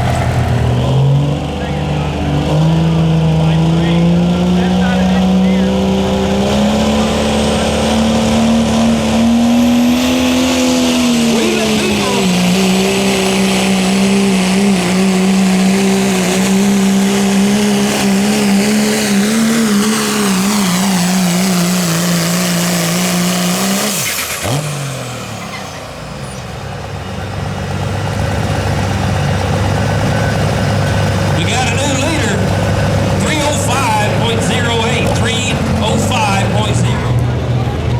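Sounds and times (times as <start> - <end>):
diesel pickup engine at full throttle: 0.0 - 37.9.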